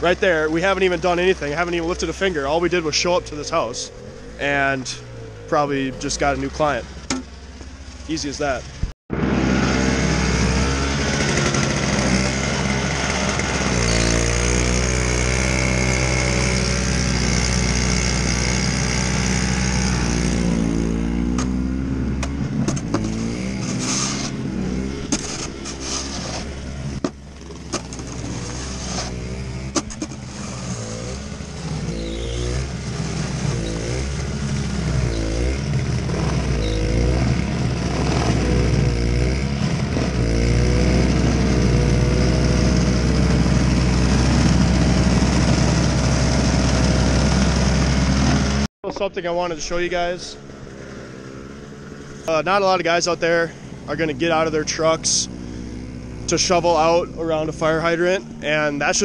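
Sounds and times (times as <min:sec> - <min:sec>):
snowblower engine running: 0:00.0 - 0:48.7, 0:50.5 - 0:59.0.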